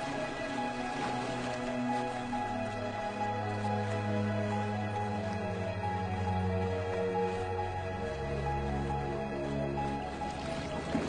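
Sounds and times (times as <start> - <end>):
background music with held notes: 0.0 - 11.0
steady low tone: 0.0 - 11.0.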